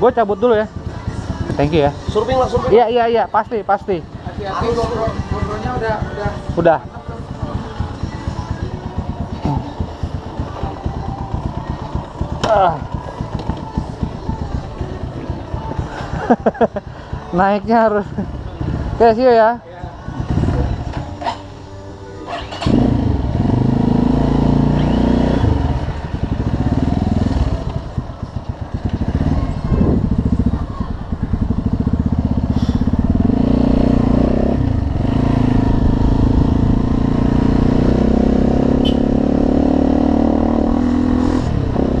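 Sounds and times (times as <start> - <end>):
motorcycle engine accelerating: 0.0 - 19.3, 20.0 - 21.2, 22.2 - 42.0.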